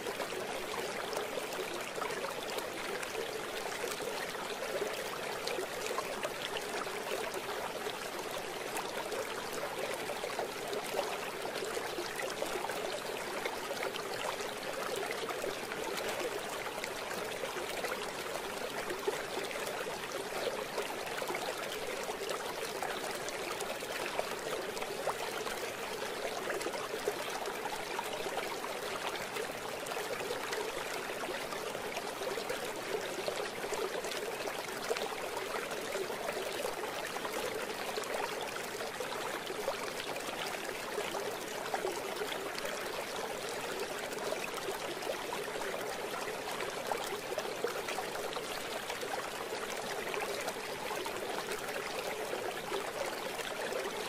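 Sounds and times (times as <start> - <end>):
stream babbling over rocks: 0.0 - 54.0.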